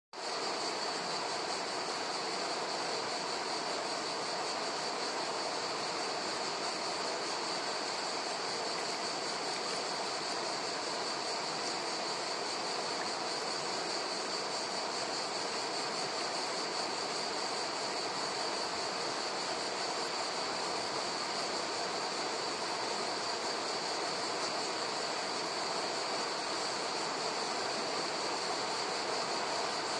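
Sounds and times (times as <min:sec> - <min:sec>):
high-pitched hiss: 0:00.2 - 0:29.9
river water rippling over pebbles: 0:00.2 - 0:29.9.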